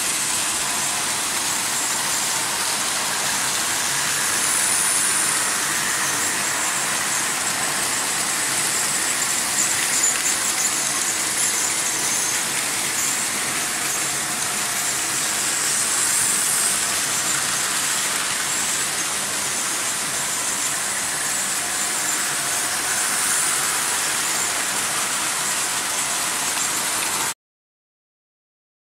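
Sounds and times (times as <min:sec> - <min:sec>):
locomotive motors: 0:00.0 - 0:27.3
model train wheels on rails: 0:00.0 - 0:27.4.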